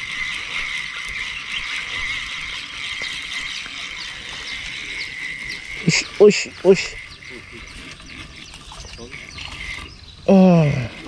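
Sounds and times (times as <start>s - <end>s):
buzzing insect chorus: 0.0s - 11.0s.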